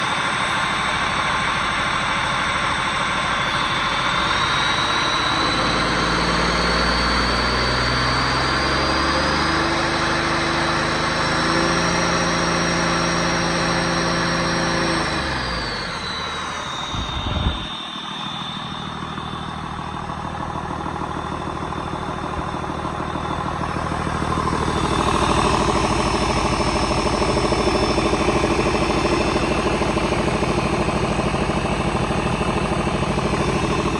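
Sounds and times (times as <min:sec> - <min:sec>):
diesel engine revving: 0:00.0 - 0:33.9
high turbo whine: 0:00.0 - 0:33.9.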